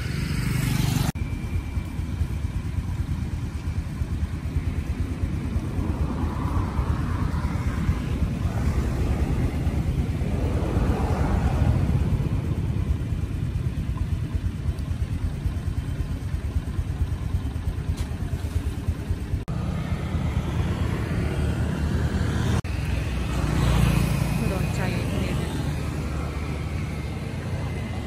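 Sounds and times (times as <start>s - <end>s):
low rumble of vehicles: 0.0s - 28.0s.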